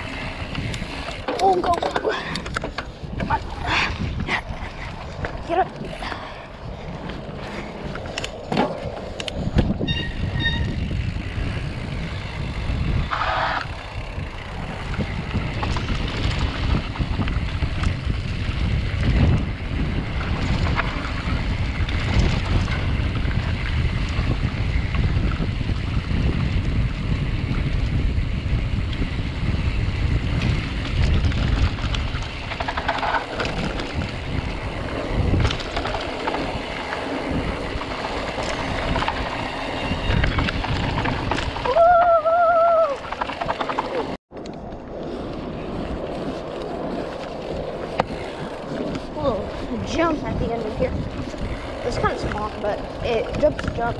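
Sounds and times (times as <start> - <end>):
mountain bike rattling on dirt trail: 0.0 - 53.9
wind buffeting microphone: 0.0 - 53.9.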